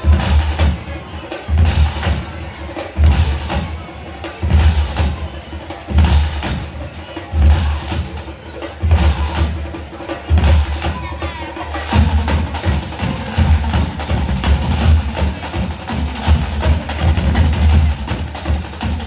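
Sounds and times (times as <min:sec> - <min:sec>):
heavy bass drum beat: 0:00.0 - 0:19.0
marching band music: 0:00.0 - 0:19.0.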